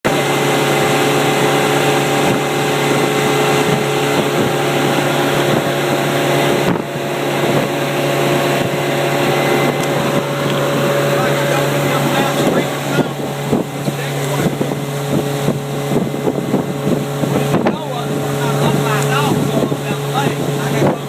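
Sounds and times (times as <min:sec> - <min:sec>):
motorboat engine running: 0:00.0 - 0:21.0
wind on microphone: 0:00.1 - 0:21.0.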